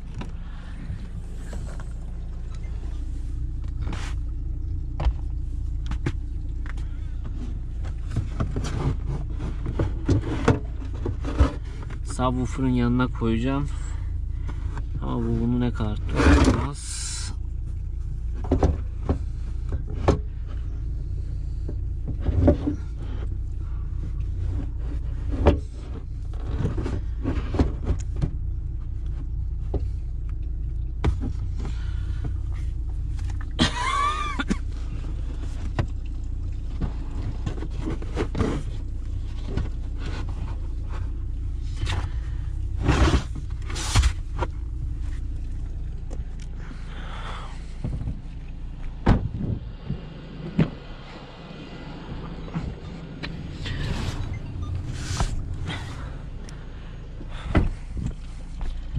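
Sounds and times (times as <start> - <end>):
car low rumble: 0.0 - 58.9.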